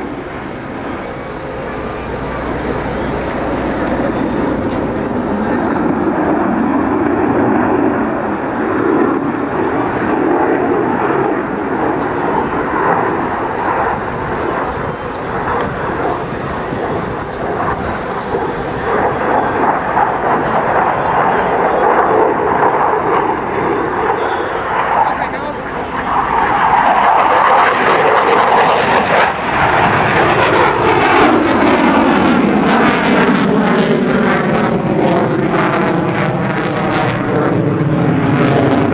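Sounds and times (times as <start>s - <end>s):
fighter jet flying past: 0.0s - 38.9s.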